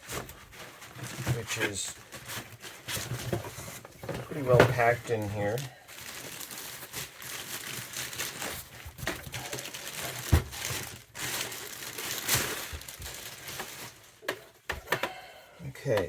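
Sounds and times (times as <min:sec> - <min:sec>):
packaging crinkling and rustling: 0:00.0 - 0:15.1.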